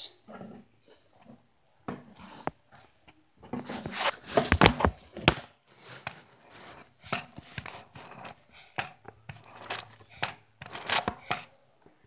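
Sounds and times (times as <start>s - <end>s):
objects being handled: 0.3s - 12.0s.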